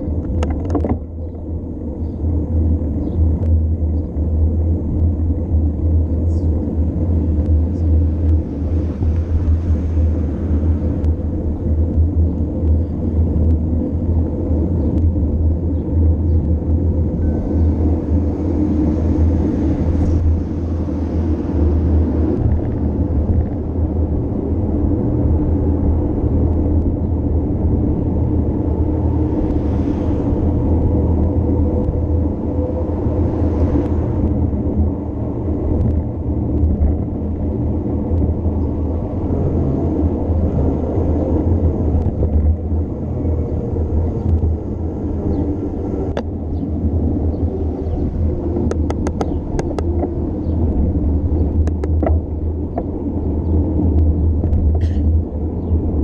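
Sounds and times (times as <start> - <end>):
bicycle road noise: 0.0 - 56.0
wind noise on microphone: 0.0 - 56.0.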